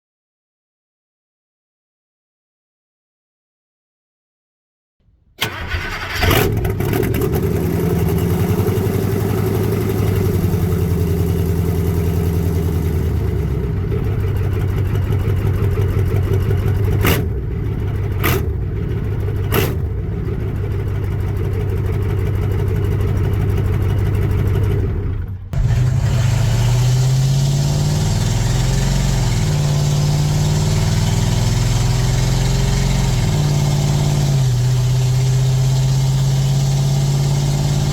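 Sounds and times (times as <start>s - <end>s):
diesel engine running loud: 5.4s - 37.9s.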